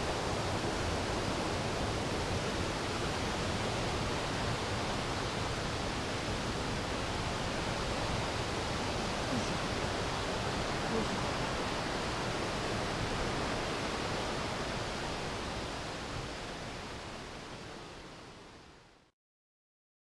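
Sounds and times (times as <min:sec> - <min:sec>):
waterfall roaring: 0:00.0 - 0:18.7.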